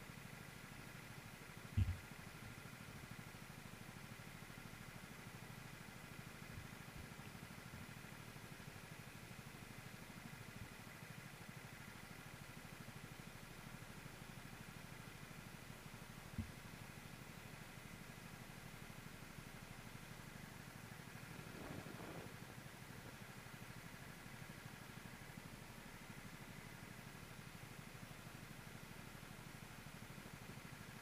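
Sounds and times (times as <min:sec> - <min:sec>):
muffled go-kart engines idling: 0:00.0 - 0:31.0.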